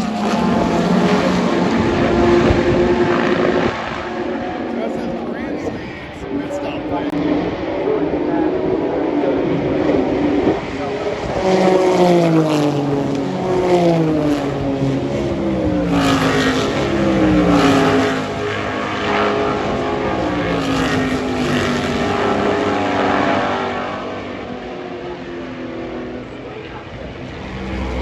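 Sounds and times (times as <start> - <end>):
race car downshifting: 0.0 - 28.0
race cars passing: 0.0 - 28.0.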